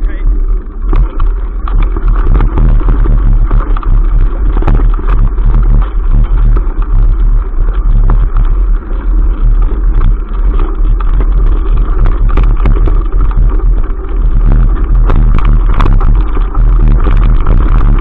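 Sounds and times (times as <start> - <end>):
bike rattling over bumps: 0.0 - 18.0
wind buffeting microphone: 0.0 - 18.0.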